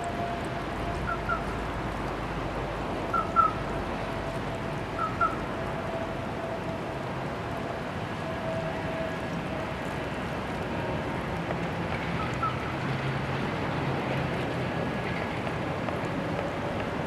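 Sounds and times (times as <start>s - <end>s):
shallow stream flowing: 0.0s - 17.0s.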